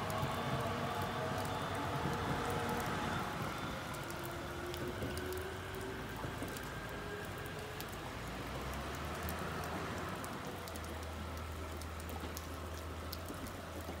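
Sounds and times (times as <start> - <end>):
rain patters and drips: 0.0 - 14.0.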